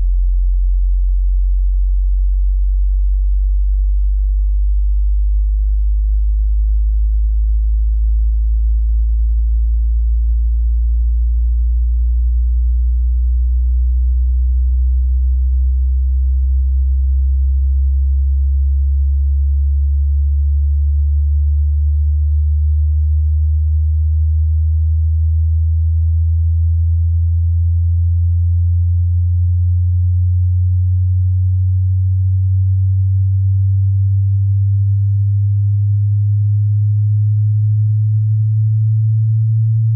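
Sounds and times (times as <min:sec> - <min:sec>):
low pure tone rising in pitch: 0:00.0 - 0:39.9.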